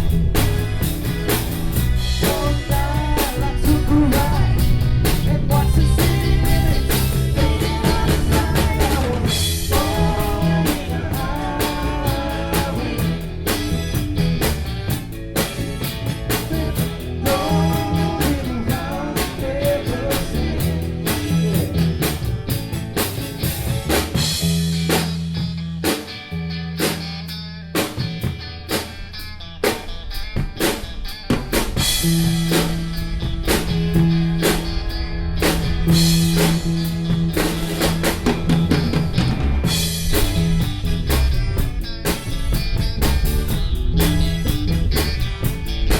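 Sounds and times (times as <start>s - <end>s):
drum kit beat: 0.0s - 45.9s
rock band playing: 0.0s - 45.9s
wavering guitar line: 0.0s - 45.9s.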